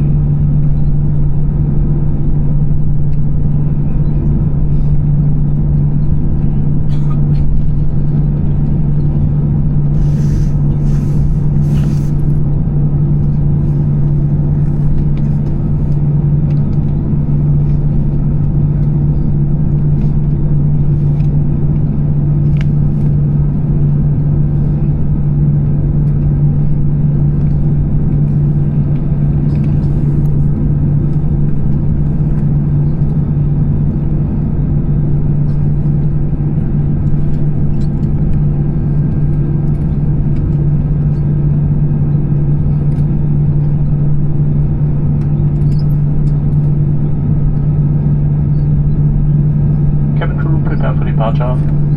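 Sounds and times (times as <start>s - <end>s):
aircraft cabin drone: 0.0s - 51.9s.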